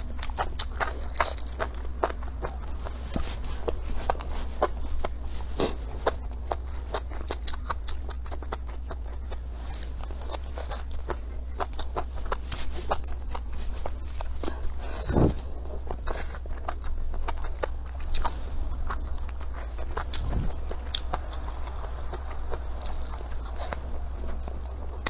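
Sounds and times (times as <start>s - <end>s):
low hum: 0.0s - 25.0s
wet chewing and smacking: 0.0s - 25.0s.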